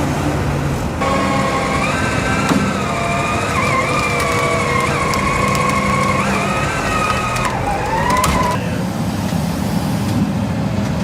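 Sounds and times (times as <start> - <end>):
heavy truck engine under load: 0.0 - 11.0
high whine: 1.0 - 10.0.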